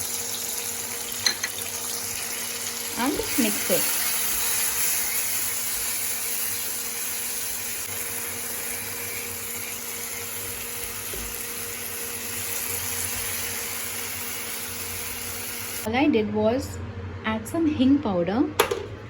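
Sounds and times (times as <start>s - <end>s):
masala sizzling in a frying pan: 0.0s - 15.9s.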